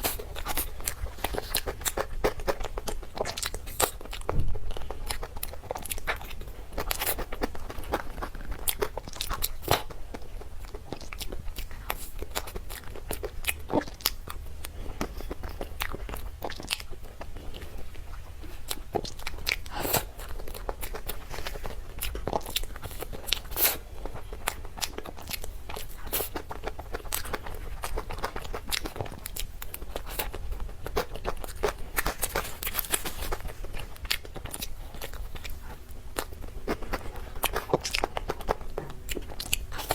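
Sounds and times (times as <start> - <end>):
chewing soft dessert: 0.0 - 39.9.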